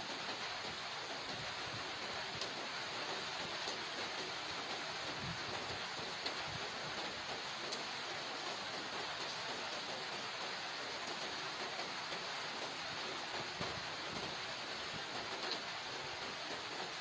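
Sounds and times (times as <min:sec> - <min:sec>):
rain on paving and leaves: 0:00.0 - 0:17.0.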